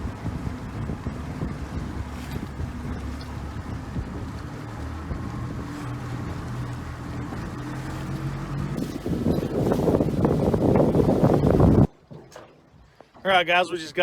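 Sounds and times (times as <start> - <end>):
wind on microphone: 0.0 - 12.0
boat engine hum: 0.0 - 14.0.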